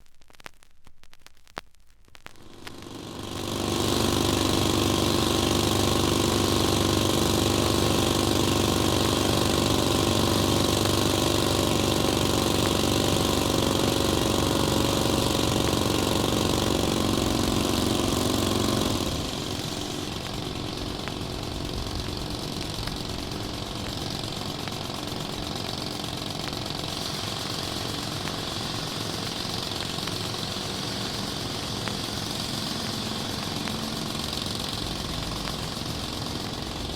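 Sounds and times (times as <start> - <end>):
vehicle engine running: 2.4 - 36.9.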